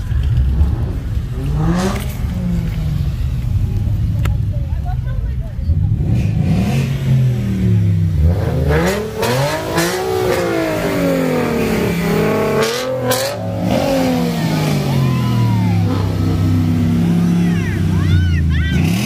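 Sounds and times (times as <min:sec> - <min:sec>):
car engines revving: 0:00.0 - 0:19.0
engines droning: 0:00.0 - 0:19.0.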